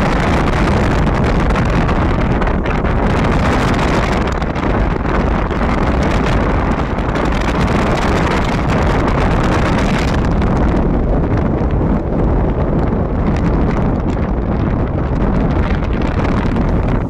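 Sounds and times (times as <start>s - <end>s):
car road and wind noise: 0.0s - 17.0s
wind buffeting microphone: 0.0s - 17.0s.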